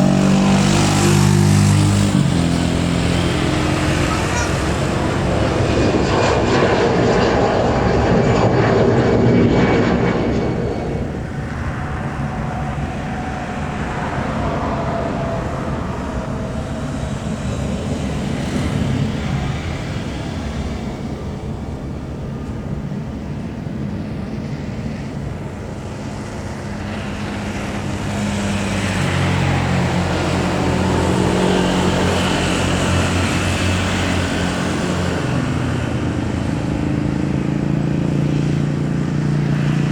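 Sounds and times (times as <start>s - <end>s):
jet airliner engines roaring: 0.0s - 39.9s
low engine hum: 0.0s - 39.9s.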